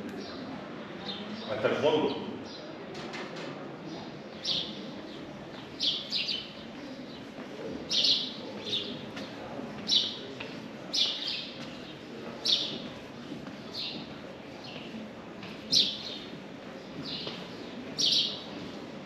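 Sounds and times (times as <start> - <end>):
low background murmur: 0.0 - 19.0.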